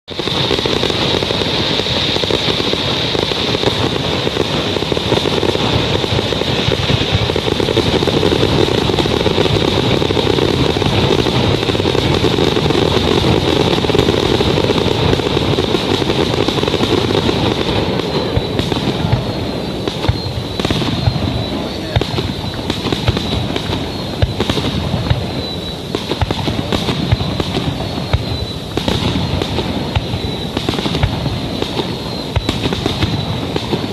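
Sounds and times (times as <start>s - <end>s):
fireworks bursting and crackling: 0.0s - 33.9s.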